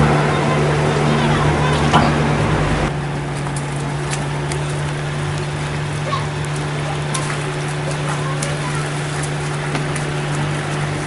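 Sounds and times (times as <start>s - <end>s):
brooms sweeping splashing water: 0.0s - 11.0s
water pump engine hum: 0.0s - 11.0s.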